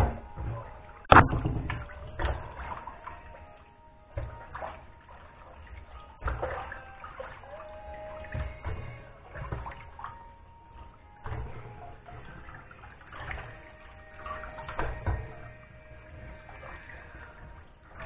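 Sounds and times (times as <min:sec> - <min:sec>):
hands sloshing water in sink: 0:00.0 - 0:18.0.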